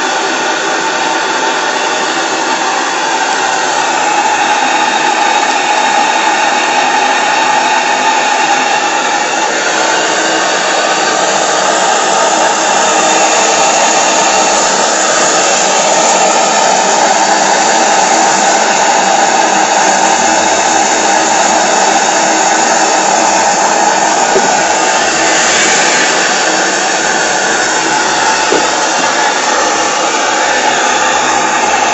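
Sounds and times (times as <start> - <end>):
model steam engine hissing whir: 0.0 - 31.9.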